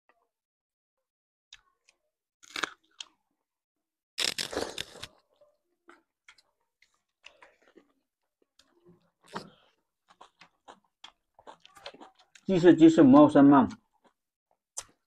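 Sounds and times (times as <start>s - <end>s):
people chewing and crunching food: 1.5s - 3.5s, 4.2s - 15.0s.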